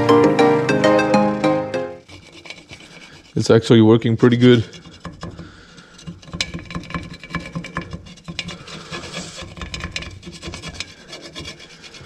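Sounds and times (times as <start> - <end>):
scraper scraping metal rim: 2.0 - 12.0.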